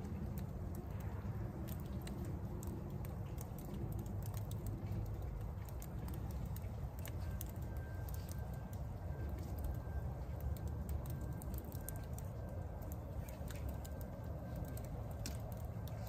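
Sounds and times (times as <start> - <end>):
light ticks and taps: 0.0 - 16.0.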